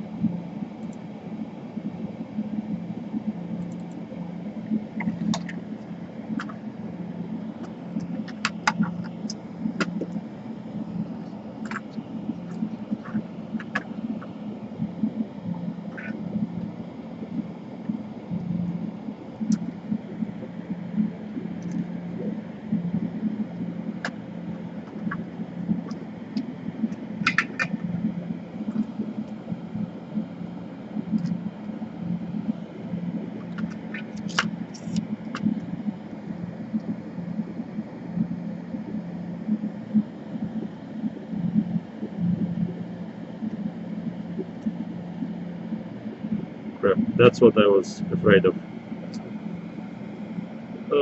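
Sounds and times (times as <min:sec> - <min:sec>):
fan motor humming: 0:00.0 - 0:51.0.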